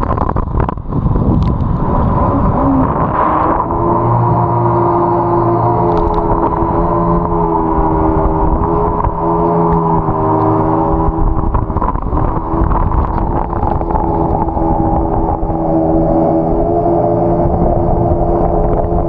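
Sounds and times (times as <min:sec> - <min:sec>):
jet ski engine running: 0:00.0 - 0:19.0
water rushing: 0:00.0 - 0:19.0
wind noise: 0:00.0 - 0:19.0.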